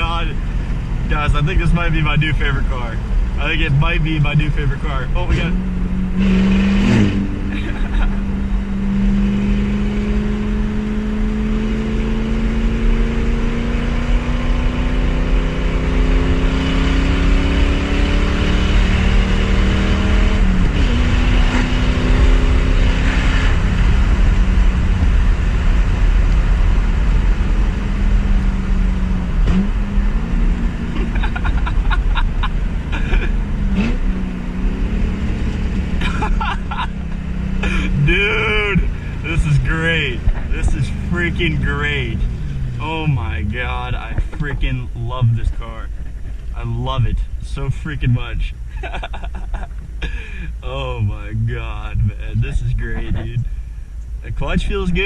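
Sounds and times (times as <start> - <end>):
loud car engine accelerating: 0.0 - 55.0.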